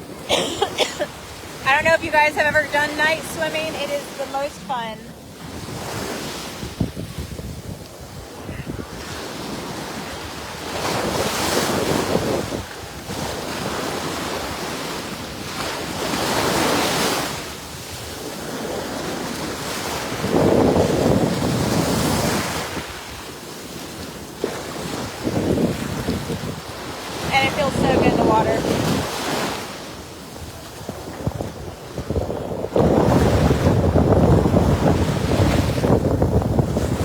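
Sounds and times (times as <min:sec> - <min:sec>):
ocean waves breaking: 0:00.0 - 0:37.0
wind on microphone: 0:01.1 - 0:23.3, 0:24.4 - 0:37.0.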